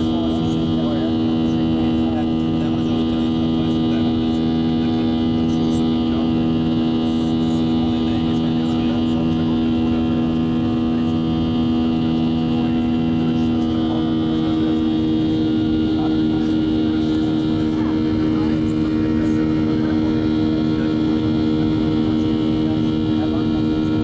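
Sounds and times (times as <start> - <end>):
airplane steady hum: 0.0 - 24.0
low pulse: 0.0 - 24.0.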